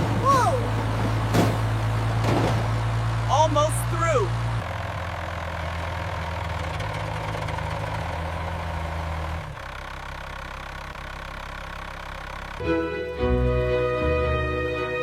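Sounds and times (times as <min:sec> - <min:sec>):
tractor engine humming: 0:00.0 - 0:15.0.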